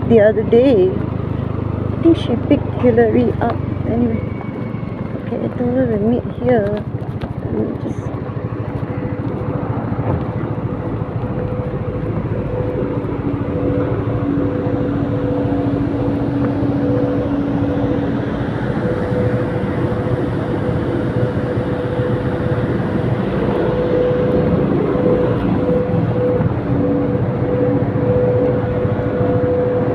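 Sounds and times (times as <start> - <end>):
road and wind noise: 0.0 - 29.9
steady hum: 0.0 - 29.9.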